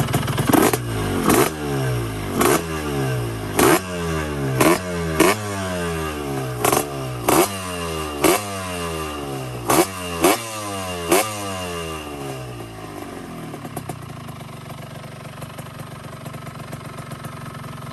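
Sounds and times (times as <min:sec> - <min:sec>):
motorcycle engine idling: 0:00.0 - 0:17.9
motorcycle engine revving: 0:00.0 - 0:17.9.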